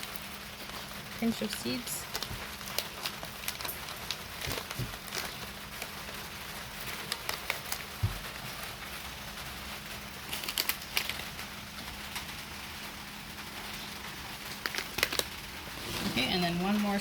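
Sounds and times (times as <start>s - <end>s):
light rain hissing: 0.0s - 17.0s.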